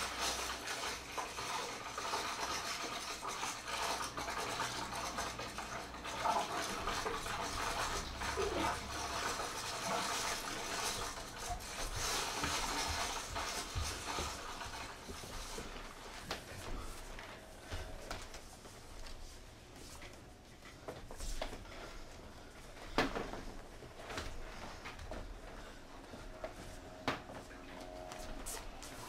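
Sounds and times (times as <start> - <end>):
low steady hum: 4.6 - 29.0.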